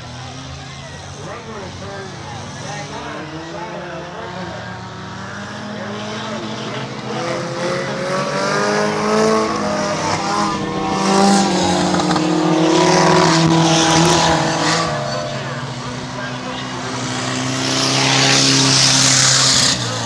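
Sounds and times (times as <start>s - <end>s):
small car engines revving: 0.0s - 20.0s.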